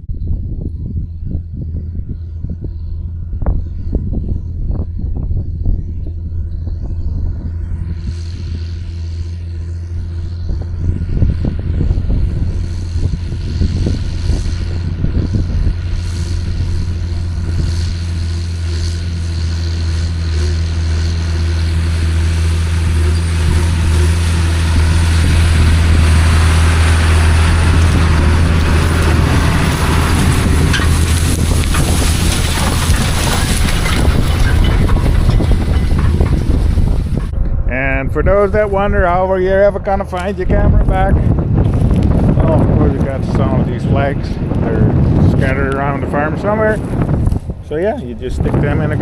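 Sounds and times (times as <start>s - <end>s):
tractor engine running under load: 0.0s - 49.0s.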